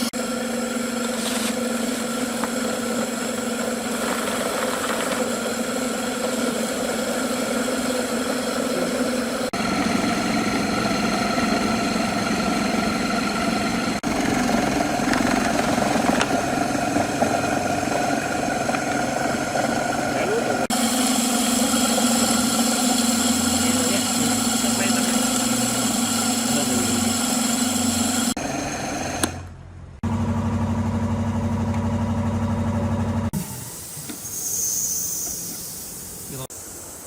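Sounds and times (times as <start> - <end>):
feed grinder motor humming: 0.0 - 33.4.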